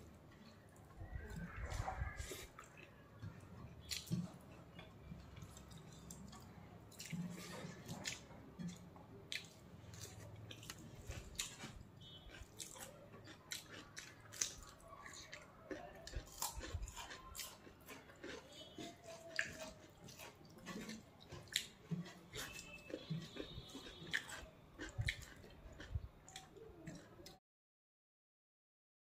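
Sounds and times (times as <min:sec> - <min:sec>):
person chewing food: 0:00.1 - 0:27.4.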